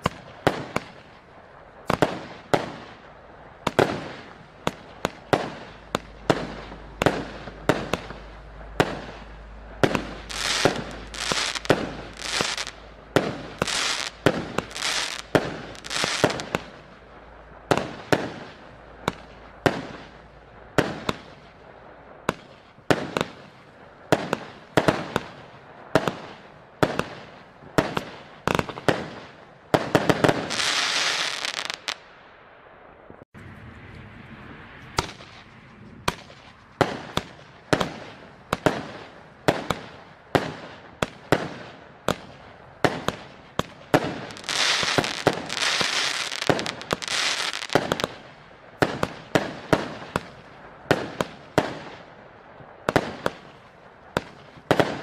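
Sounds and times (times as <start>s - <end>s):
firework crackling hiss: 0.0s - 32.1s, 33.5s - 52.1s
firework bangs: 0.0s - 33.5s, 34.1s - 55.0s.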